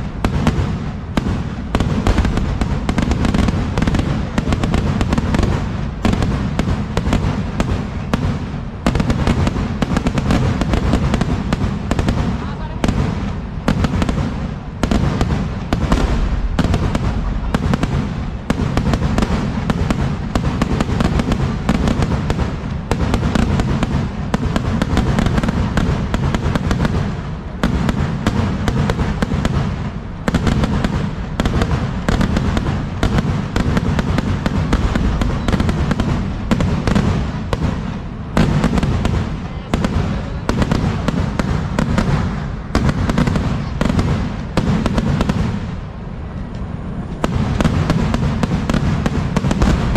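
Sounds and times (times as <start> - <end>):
fireworks cracks and bangs: 0.0 - 49.9.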